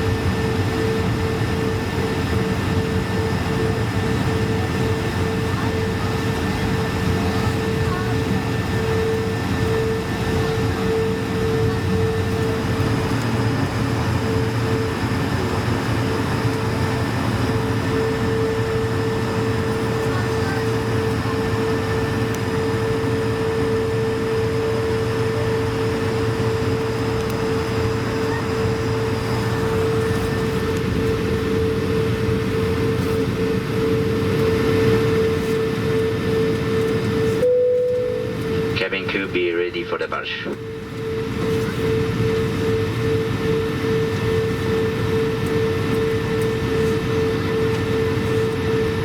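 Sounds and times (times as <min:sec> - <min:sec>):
aircraft cabin air rush: 0:00.4 - 0:37.4, 0:38.1 - 0:49.0.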